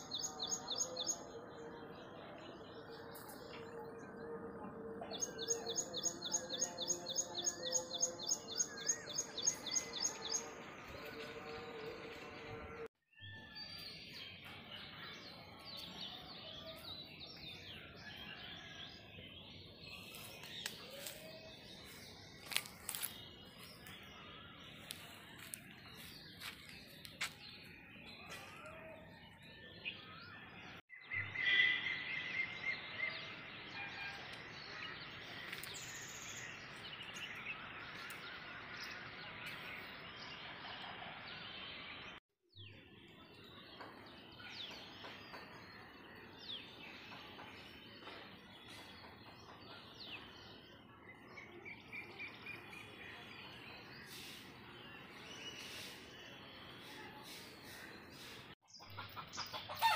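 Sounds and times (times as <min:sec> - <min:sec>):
birds chirping and calling: 0:05.1 - 0:12.2, 0:13.6 - 0:42.2, 0:43.1 - 0:59.9.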